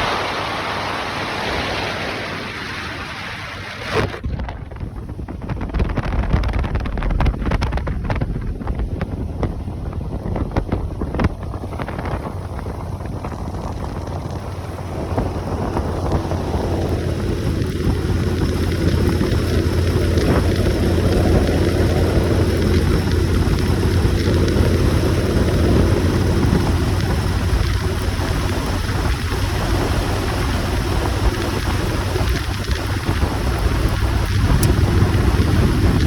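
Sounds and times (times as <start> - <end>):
wind rushing over microphone: 0.0 - 36.0
motorcycle engine running: 4.4 - 36.0.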